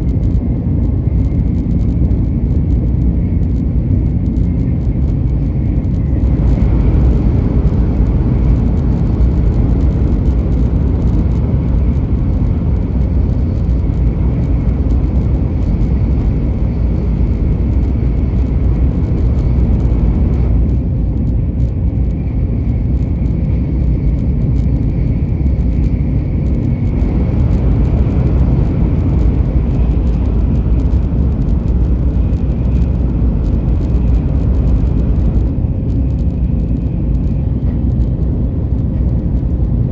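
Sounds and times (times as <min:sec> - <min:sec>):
faint steady whine: 0:00.0 - 0:39.9
moving vehicle rumble: 0:00.0 - 0:39.9.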